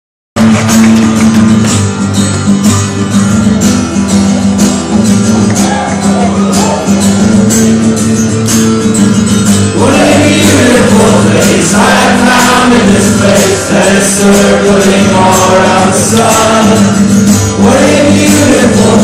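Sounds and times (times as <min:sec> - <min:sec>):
acoustic guitar strumming: 0:00.4 - 0:19.0.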